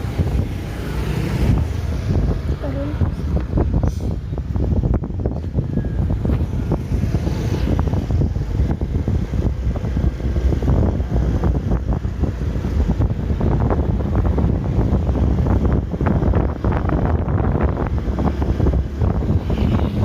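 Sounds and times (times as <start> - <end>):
vehicles on the road: 0.0 - 20.0
wind buffeting microphone: 0.0 - 20.0.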